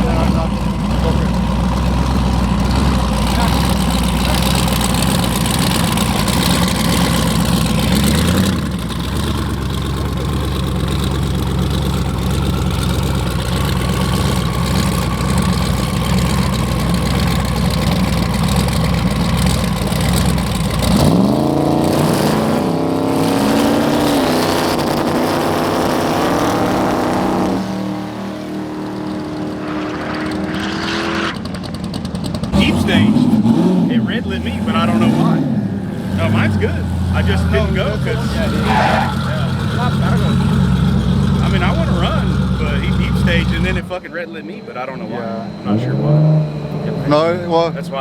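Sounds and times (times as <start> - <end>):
car accelerating through gears: 0.0 - 48.0
race car engines running: 0.0 - 48.0.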